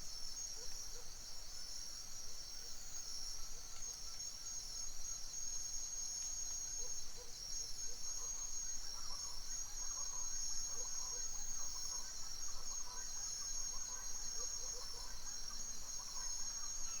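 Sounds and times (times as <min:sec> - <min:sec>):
crickets and insects chirping: 0:00.0 - 0:17.0.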